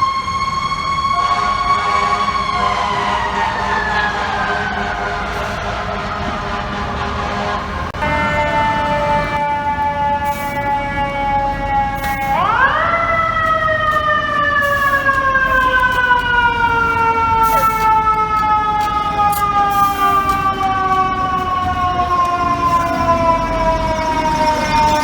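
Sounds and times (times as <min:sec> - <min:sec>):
mechanical siren wailing: 0:00.0 - 0:25.0
street traffic rumbling: 0:00.0 - 0:25.0.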